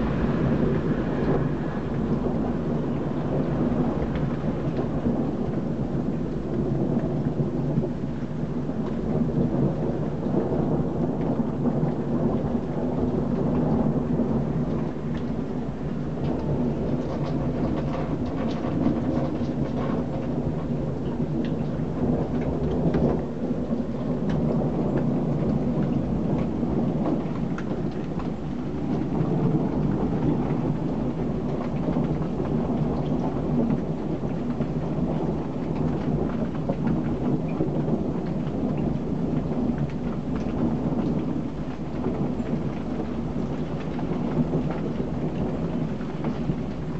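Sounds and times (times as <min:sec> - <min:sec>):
heavy rain: 0:00.0 - 0:46.9
low thunder rumble: 0:00.0 - 0:46.9.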